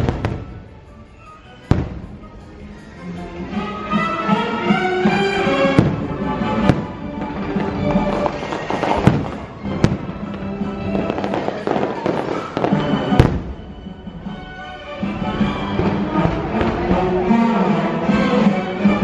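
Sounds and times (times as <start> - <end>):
fireworks bangs: 0.0 - 2.6, 3.8 - 18.6
show music: 0.0 - 19.0.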